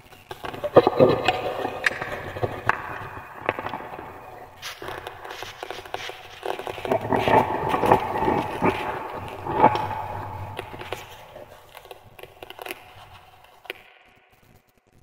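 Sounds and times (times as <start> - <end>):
wood fire crackling: 0.1 - 13.7.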